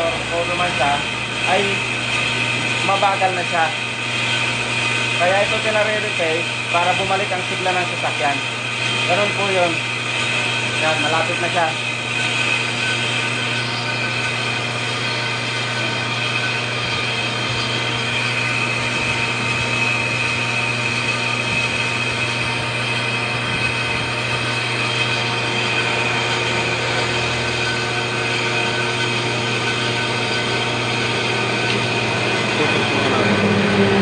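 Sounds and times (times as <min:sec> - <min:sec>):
metal lathe cutting: 0:00.0 - 0:34.0.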